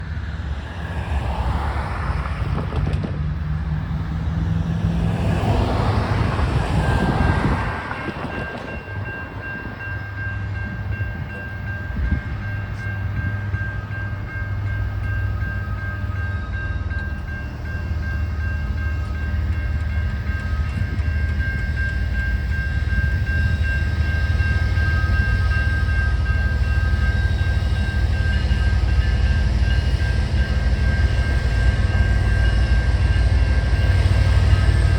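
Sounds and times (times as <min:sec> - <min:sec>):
train rumbling: 0:00.0 - 0:34.9
electronic crossing bell ringing: 0:06.7 - 0:34.9.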